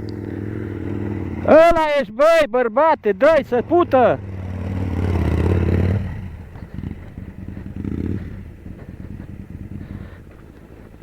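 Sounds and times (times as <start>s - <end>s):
motorcycle engine revving: 0.0s - 2.0s, 2.9s - 11.0s.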